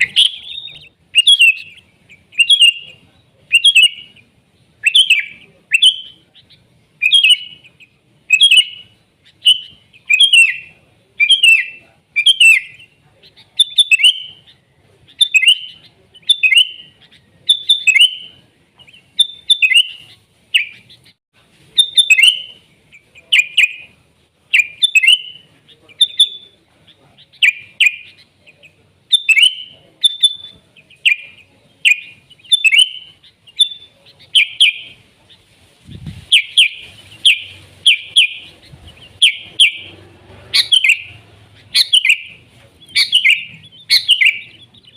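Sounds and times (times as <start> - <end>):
bird singing warbling phrases: 0.0 - 44.9.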